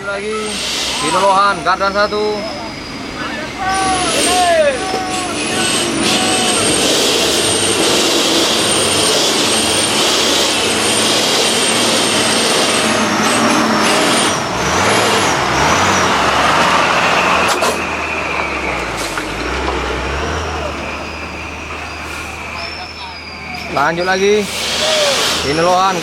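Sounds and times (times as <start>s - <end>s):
loud hiss: 0.0s - 18.3s, 20.6s - 26.0s
heavy truck driving past: 0.0s - 26.0s.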